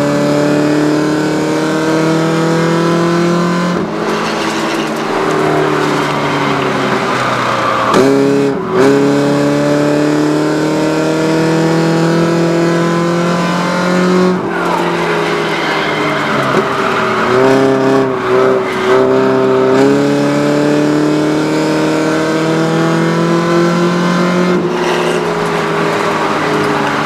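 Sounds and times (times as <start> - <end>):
race car engine under load: 0.0 - 27.0.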